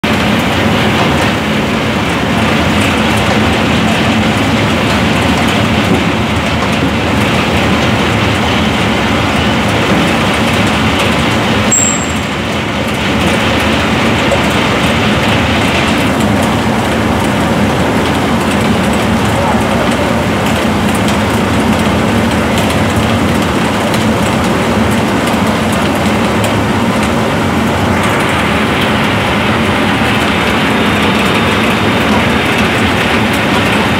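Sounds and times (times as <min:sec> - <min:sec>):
roller peeler machine running: 0:00.0 - 0:33.9
water spraying: 0:00.0 - 0:33.9.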